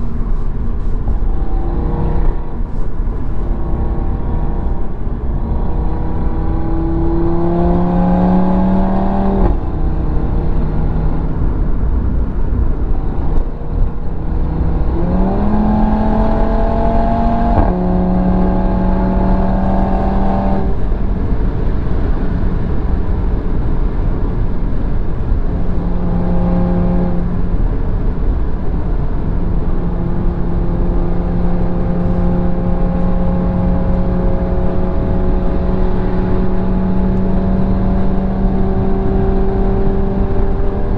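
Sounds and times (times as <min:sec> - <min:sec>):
road and wind rumble: 0:00.0 - 0:40.9
sports car engine accelerating: 0:00.0 - 0:40.9.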